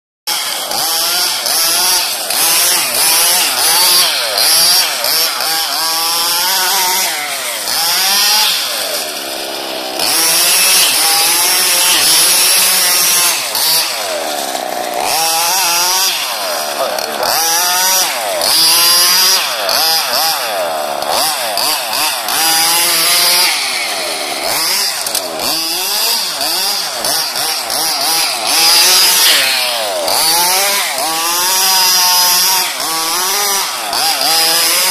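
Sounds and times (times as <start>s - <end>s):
rc car engine revving: 0.3s - 34.9s.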